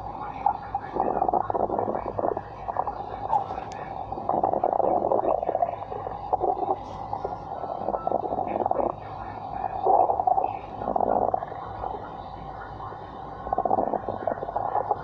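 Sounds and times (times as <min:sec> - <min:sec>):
stomach growling: 0:00.0 - 0:15.0.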